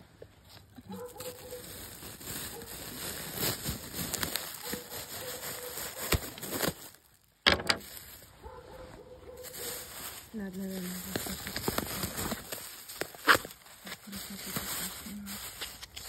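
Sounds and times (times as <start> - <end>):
packaging rustling and crinkling: 0.4 - 16.0.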